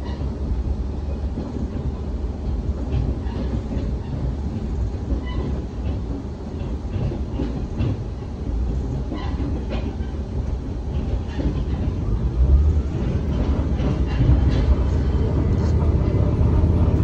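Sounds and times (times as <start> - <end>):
train interior rumble: 0.0 - 17.0
wheel clacks over rail joints: 0.0 - 17.0.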